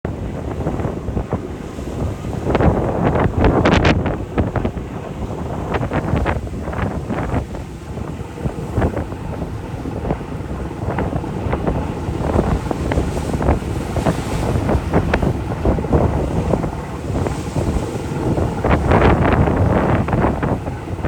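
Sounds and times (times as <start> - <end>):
open sea rushing: 0.0 - 21.0
wind buffeting microphone: 0.0 - 21.0.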